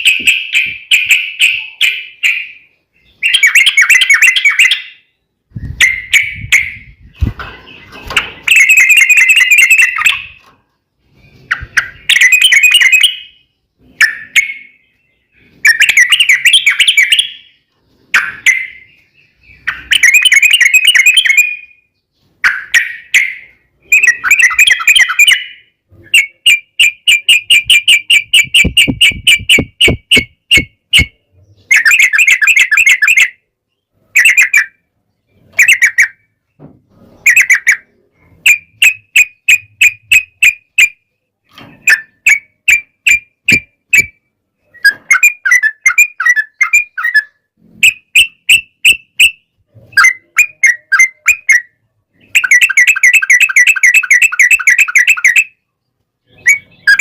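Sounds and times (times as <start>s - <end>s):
bulbul singing: 0.0s - 36.6s, 41.8s - 57.0s.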